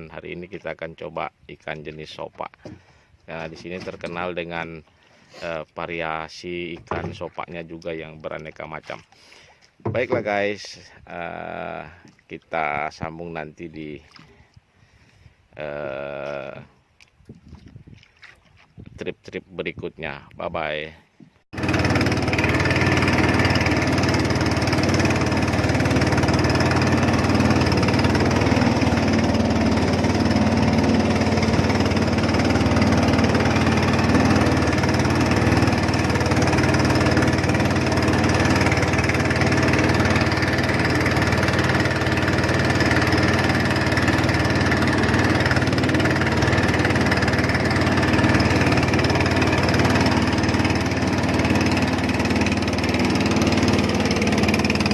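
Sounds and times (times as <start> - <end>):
boat engine humming: 0.0 - 10.7, 21.2 - 54.9.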